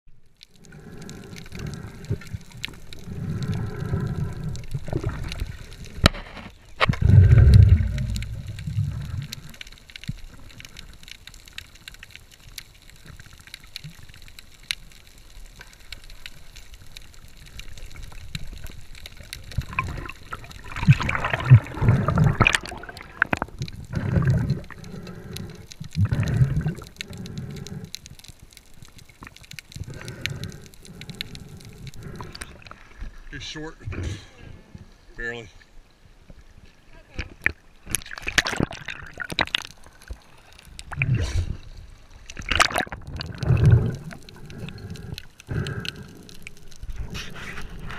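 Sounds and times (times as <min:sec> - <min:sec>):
underwater bubbling and gurgling: 0:00.1 - 0:47.9.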